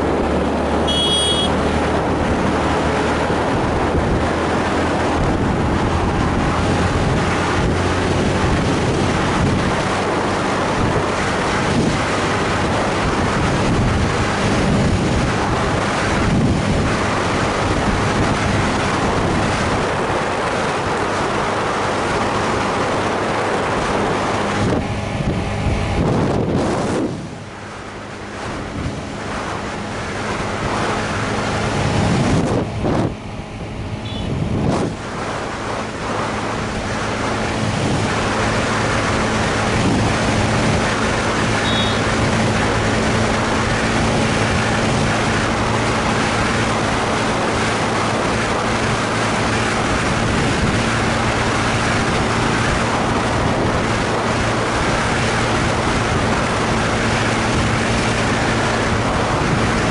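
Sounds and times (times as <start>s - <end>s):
motorcycle engine at speed: 0.0s - 59.9s
wind rush over microphone: 0.0s - 59.9s.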